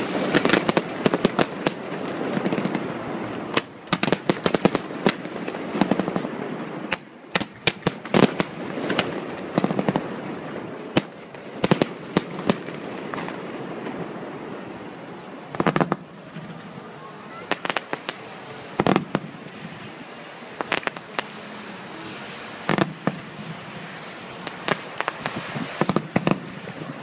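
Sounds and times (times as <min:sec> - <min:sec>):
fireworks bangs and crackling: 0:00.0 - 0:27.0
low rumbling: 0:04.8 - 0:27.0.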